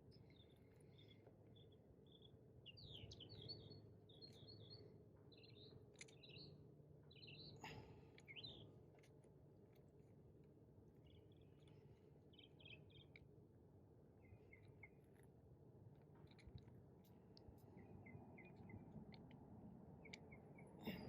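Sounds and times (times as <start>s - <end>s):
faint birds chirping: 0.0s - 21.0s
low steady background hum: 0.0s - 21.0s.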